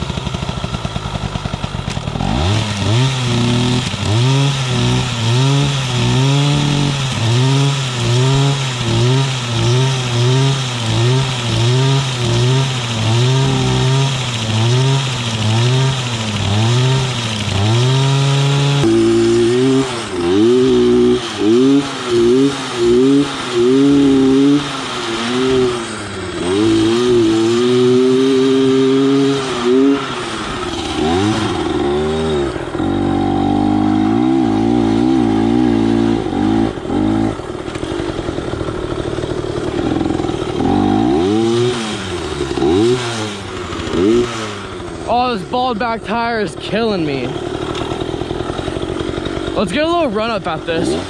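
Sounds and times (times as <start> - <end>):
two-stroke engine revving: 0.0 - 51.0.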